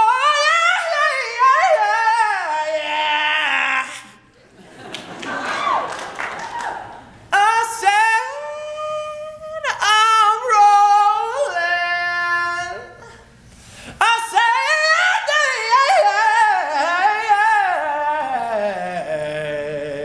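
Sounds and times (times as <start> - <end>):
man singing a cappella: 0.0 - 4.3, 7.3 - 13.3, 14.0 - 20.0.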